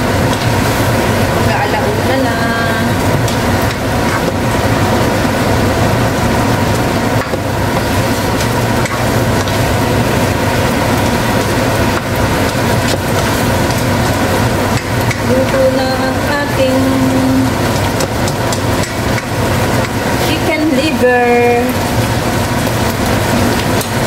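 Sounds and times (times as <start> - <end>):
food sizzling in a wok: 0.0 - 24.0
steady low hum: 0.0 - 24.0.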